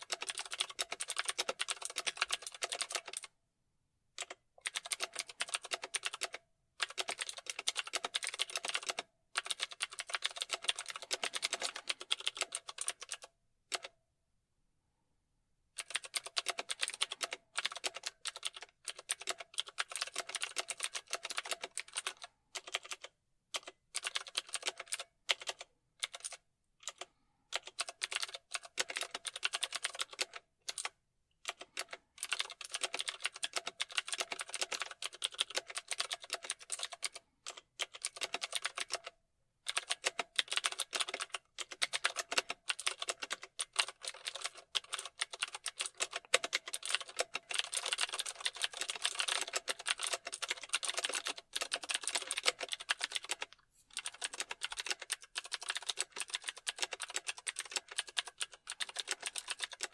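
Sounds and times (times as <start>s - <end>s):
fast typing on keyboard: 0.0s - 3.3s, 4.2s - 13.9s, 15.8s - 59.9s.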